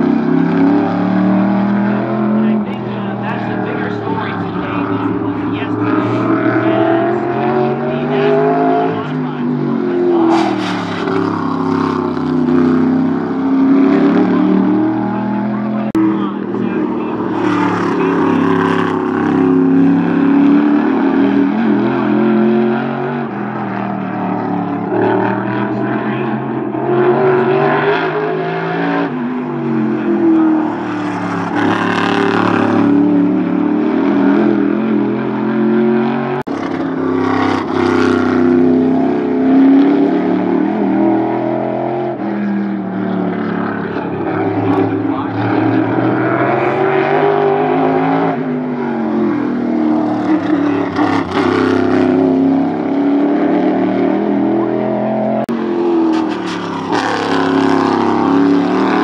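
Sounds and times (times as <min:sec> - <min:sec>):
race car engine at speed: 0:00.0 - 0:59.0.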